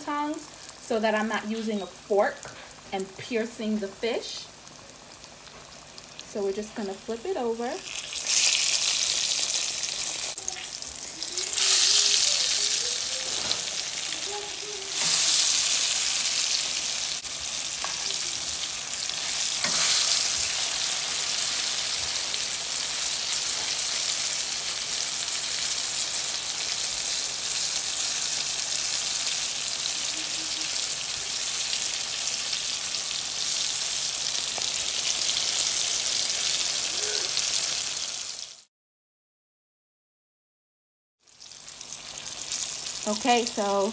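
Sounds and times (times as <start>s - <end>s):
fish fillets sizzling in oil: 0.0s - 38.7s, 41.2s - 43.9s.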